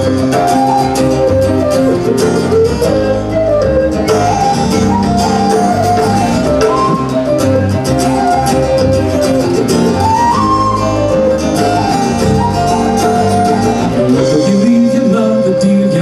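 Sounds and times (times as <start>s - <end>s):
acoustic guitar strumming: 0.0s - 16.0s
whistle melody: 0.0s - 16.0s.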